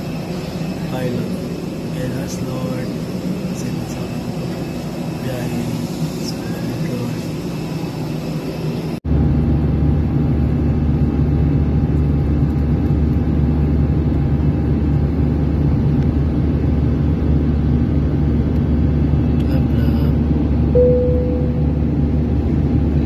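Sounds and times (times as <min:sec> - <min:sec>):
jet engine cabin rumble: 0:00.0 - 0:23.0
parked aircraft hum: 0:00.0 - 0:23.0.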